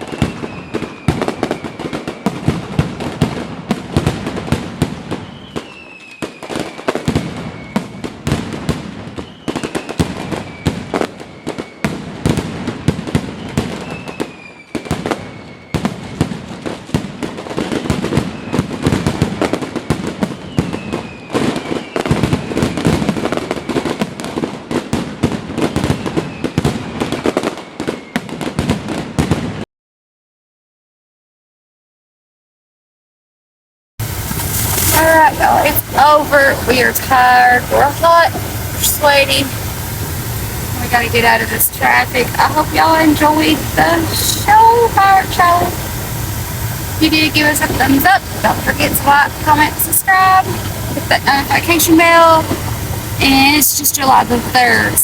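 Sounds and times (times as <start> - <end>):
falling firework whistle: 0.0 - 29.6, 34.0 - 55.0
fireworks bangs and crackling: 0.0 - 29.6, 34.0 - 55.0.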